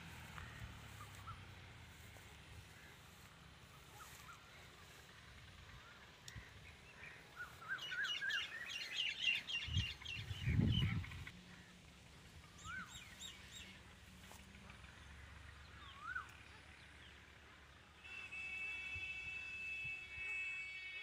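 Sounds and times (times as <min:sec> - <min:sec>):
small birds chirping: 0:00.0 - 0:17.7.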